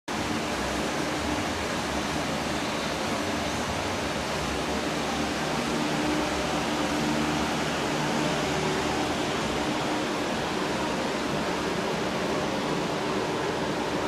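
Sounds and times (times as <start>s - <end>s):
electric fan air rush: 0.1s - 14.0s.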